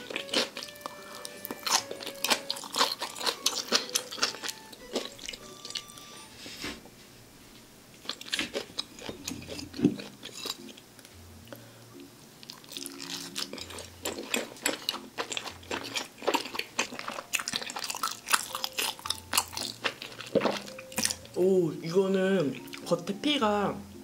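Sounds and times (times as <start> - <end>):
chewing dumpling: 0.0 - 6.4, 7.9 - 11.1, 12.4 - 21.6, 22.5 - 23.0.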